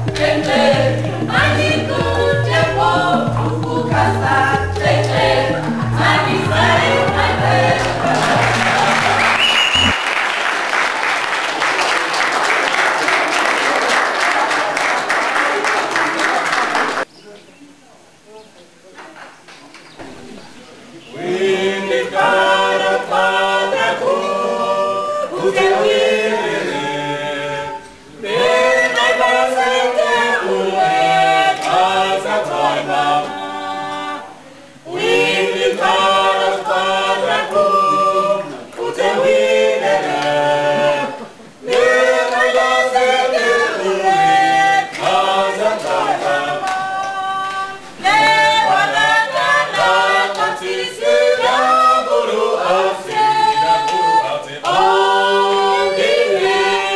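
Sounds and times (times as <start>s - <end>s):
group singing a cappella: 0.0s - 10.0s, 21.0s - 56.9s.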